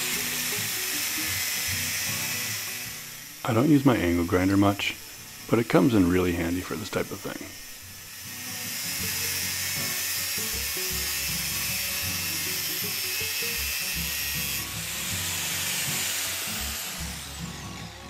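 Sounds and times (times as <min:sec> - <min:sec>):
angle grinder grinding steel: 0:00.0 - 0:18.0.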